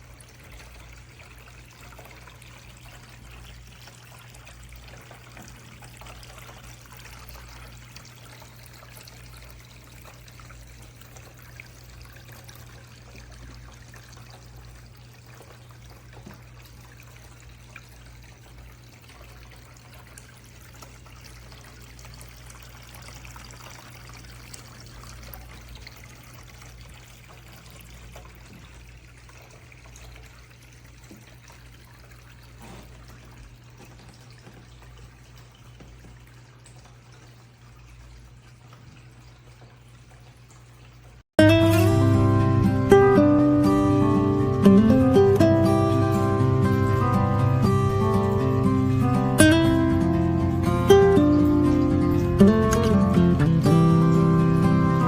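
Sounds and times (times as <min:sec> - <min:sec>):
fountain water trickling and pouring: 0:00.0 - 0:55.0.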